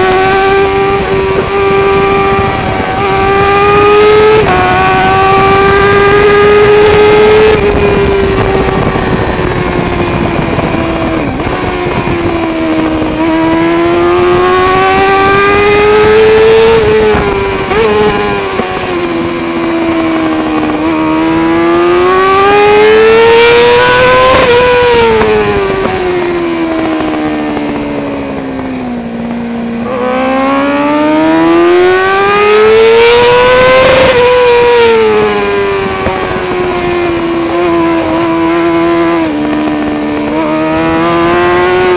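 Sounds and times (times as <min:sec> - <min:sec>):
racing motorcycle engine howling: 0:00.0 - 0:41.9
wind noise on microphone: 0:00.0 - 0:41.9.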